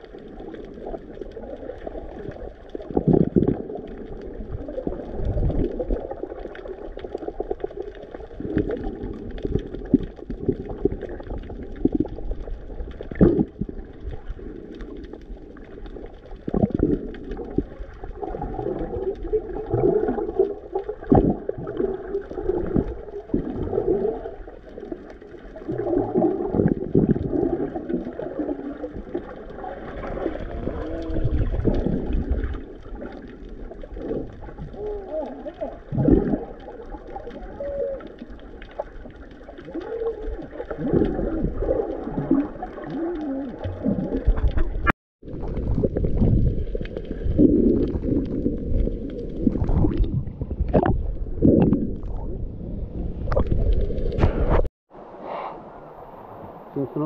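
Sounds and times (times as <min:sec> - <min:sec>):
muffled underwater sloshing: 0:00.0 - 0:57.0.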